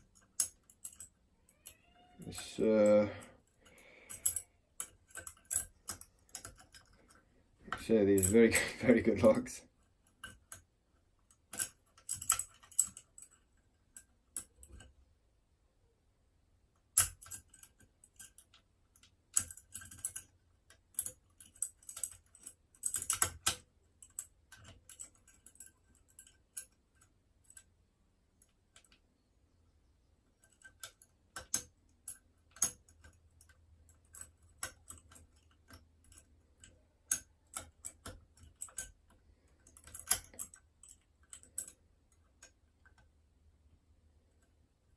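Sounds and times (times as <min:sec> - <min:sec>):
lock-picking tools clicking: 0:00.0 - 0:15.0, 0:16.9 - 0:27.7, 0:30.3 - 0:43.1.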